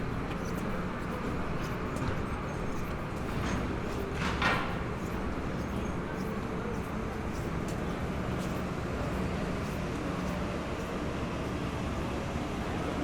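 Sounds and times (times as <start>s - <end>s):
faint footsteps and clicks: 0.0s - 12.1s
murmur of passers-by: 0.0s - 13.0s.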